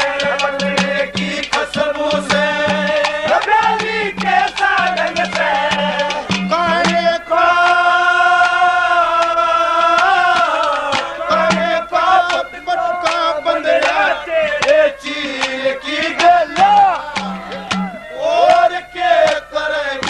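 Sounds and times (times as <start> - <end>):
man singing folk melody: 0.0 - 8.1, 11.1 - 20.0.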